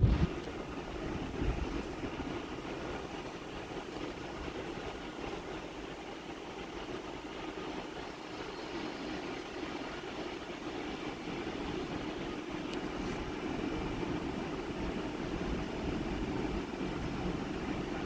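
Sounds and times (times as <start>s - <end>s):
low rumble of trains: 0.0s - 18.0s
train arriving slowly: 0.0s - 18.0s.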